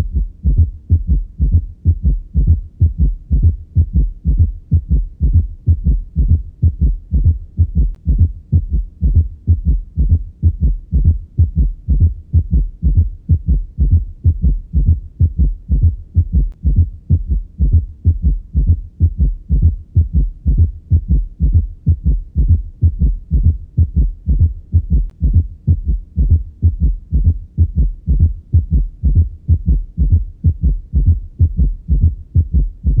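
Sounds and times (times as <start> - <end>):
heartbeat through stethoscope: 0.0 - 33.0.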